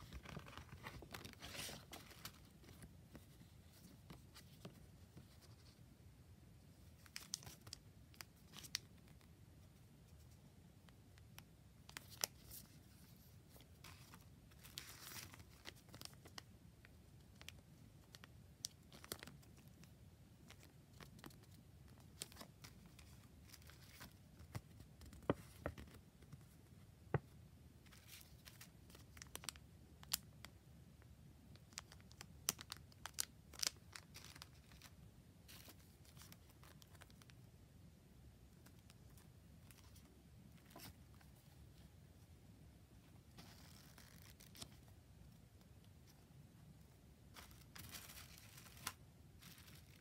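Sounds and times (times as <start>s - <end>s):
plastic sleeves and paper crinkling: 0.0s - 5.8s, 6.7s - 26.6s, 27.8s - 30.5s, 31.5s - 37.5s, 38.5s - 42.0s, 42.9s - 50.0s.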